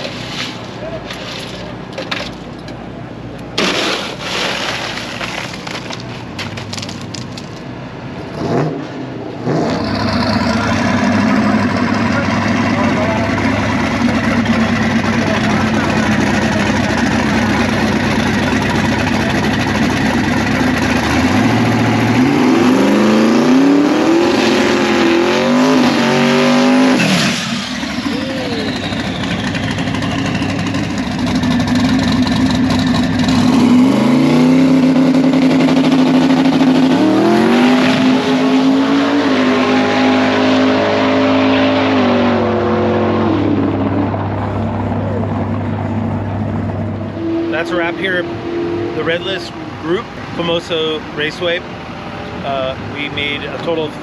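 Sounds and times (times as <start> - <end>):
drag car engine at full throttle: 8.1 - 54.0.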